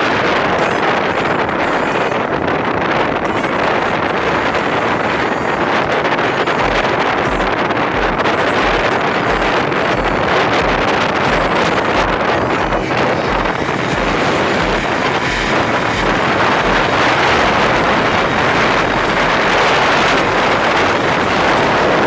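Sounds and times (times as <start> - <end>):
wind rushing over microphone: 0.0 - 22.0
motorcycle engine running: 3.1 - 22.0.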